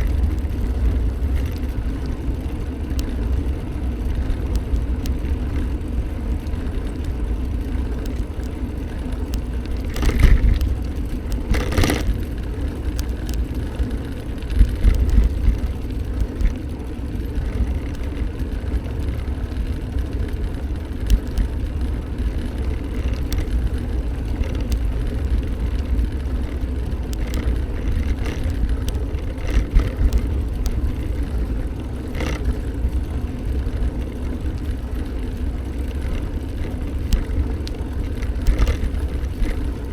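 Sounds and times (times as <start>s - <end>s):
bike riding rumble: 0.0s - 39.9s.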